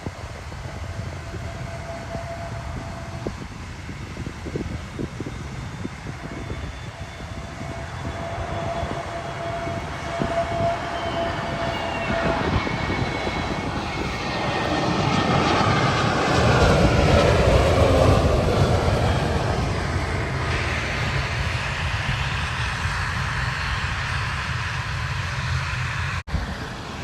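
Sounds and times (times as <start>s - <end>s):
jet airliner flying overhead: 0.0s - 27.0s.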